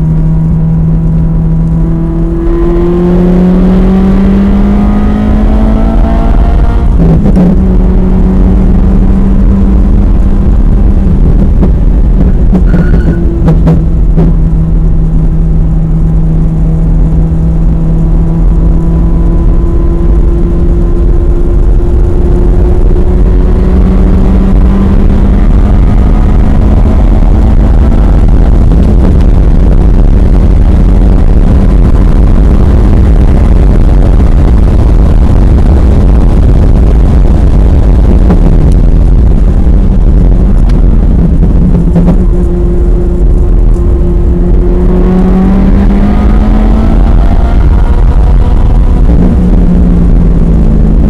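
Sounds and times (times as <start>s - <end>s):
car engine pulling hard: 0.0s - 51.0s
wind and road noise: 0.0s - 51.0s.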